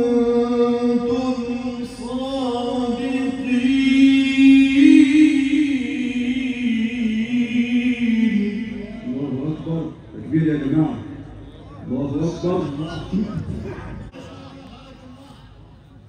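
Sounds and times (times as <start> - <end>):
man reciting melodically: 0.0 - 11.1, 11.8 - 15.8.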